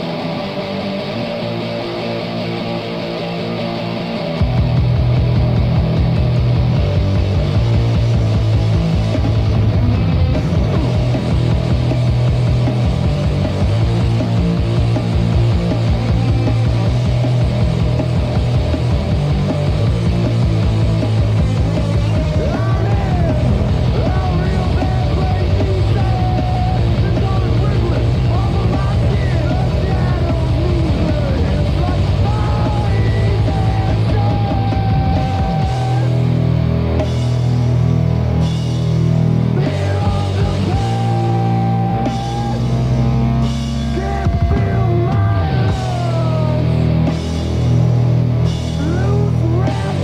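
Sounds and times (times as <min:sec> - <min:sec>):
drum kit: 0:00.0 - 0:50.0
guitars holding sustained chords: 0:00.0 - 0:50.0
punk rock band playing: 0:00.0 - 0:50.0.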